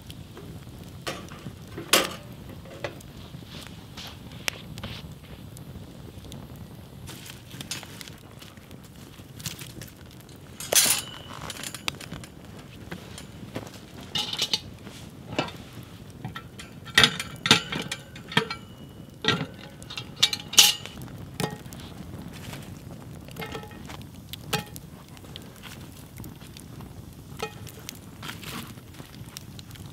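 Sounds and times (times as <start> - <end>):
cast iron pot clinking on grill: 0.3 - 3.4, 7.1 - 29.9.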